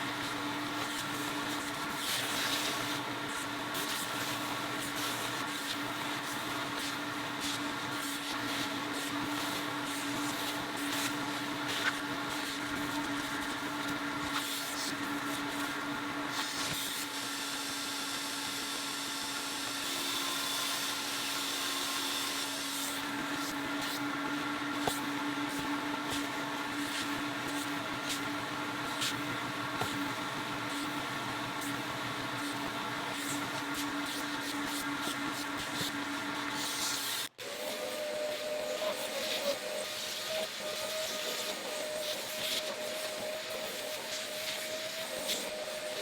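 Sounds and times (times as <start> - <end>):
vacuum cleaner motor humming: 0.0 - 46.0.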